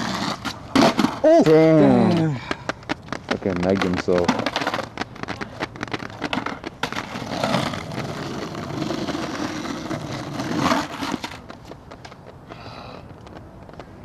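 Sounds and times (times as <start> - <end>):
skateboard wheels rolling on pavement: 0.0 - 14.0.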